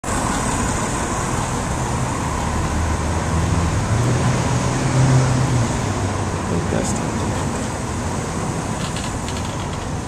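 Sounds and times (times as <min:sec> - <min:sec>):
street traffic hum: 0:00.0 - 0:10.0.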